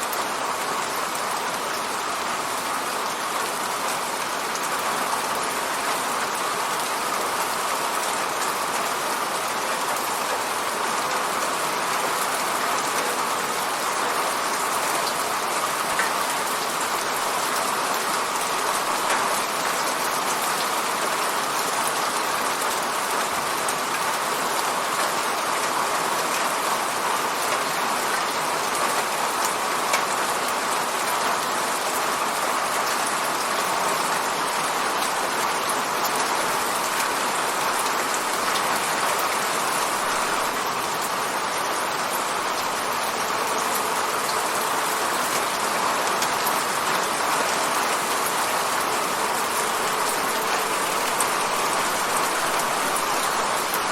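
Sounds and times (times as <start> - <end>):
ticks of raindrops: 0.0 - 53.9
rain hitting a window pane: 0.1 - 53.9.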